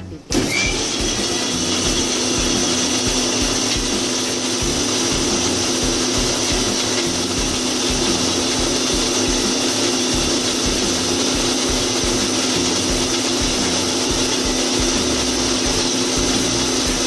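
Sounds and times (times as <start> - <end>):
kitchen mixer grinder running: 0.3 - 17.0.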